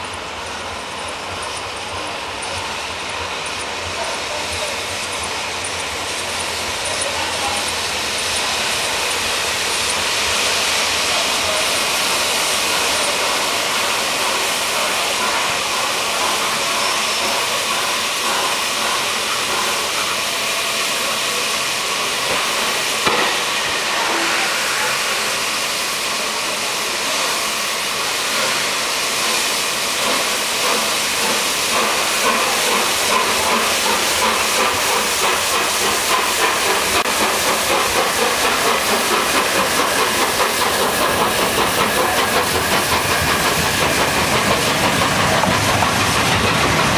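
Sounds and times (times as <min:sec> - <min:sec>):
steam hissing from locomotive: 0:00.0 - 0:46.9
steam locomotive beat: 0:00.0 - 0:46.9.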